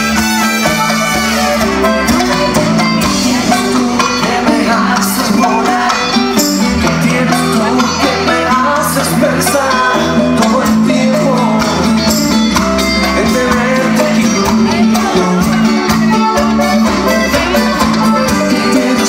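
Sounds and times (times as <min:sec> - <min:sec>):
button accordion: 0:00.0 - 0:19.0
live latin pop band: 0:00.0 - 0:19.0.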